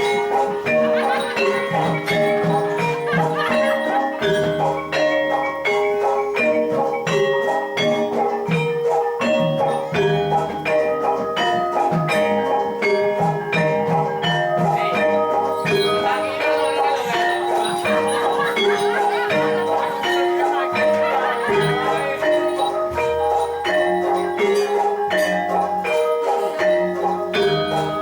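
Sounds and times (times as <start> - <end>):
gamelan metal keys and gongs: 0.0 - 28.0.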